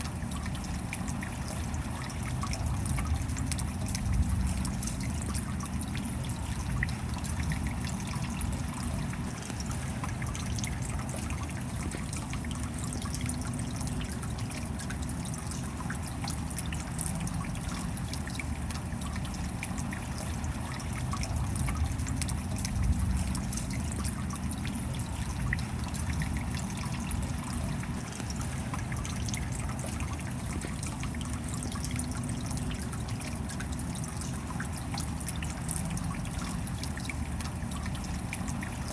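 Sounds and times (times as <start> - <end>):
steady rain falling: 0.0 - 31.6
water trickling and dripping: 0.0 - 38.9.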